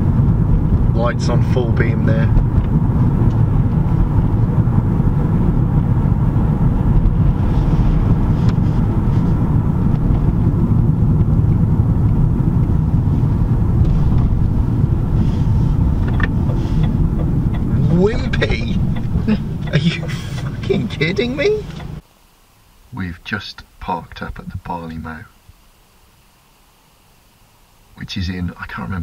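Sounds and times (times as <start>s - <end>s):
car interior road and engine noise: 0.0s - 29.0s.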